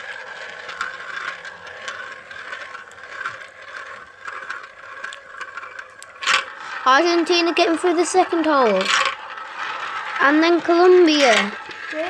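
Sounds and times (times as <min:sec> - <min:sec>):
marbles clicking: 0:00.0 - 0:12.0
marbles rolling on track: 0:00.0 - 0:12.0.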